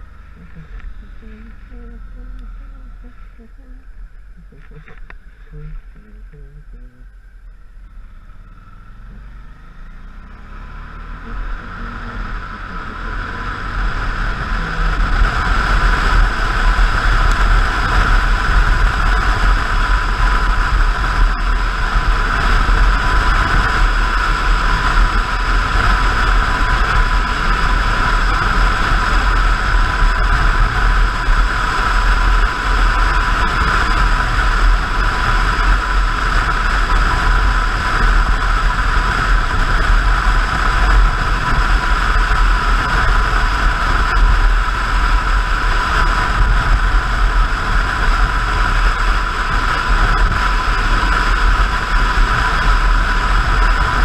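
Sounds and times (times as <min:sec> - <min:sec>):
motorcycle engine accelerating: 0:00.0 - 0:54.0
wind rushing over microphone: 0:08.8 - 0:54.0.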